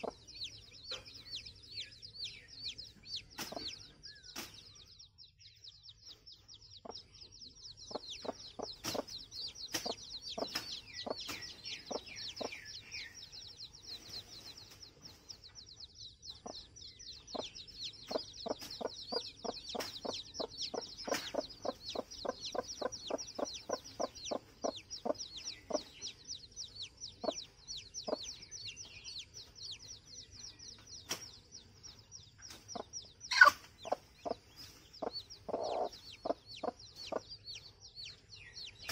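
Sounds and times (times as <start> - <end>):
chicken clucking: 0.0 - 4.0, 6.1 - 30.1, 31.9 - 38.9
high-pitched chirping: 6.2 - 38.9.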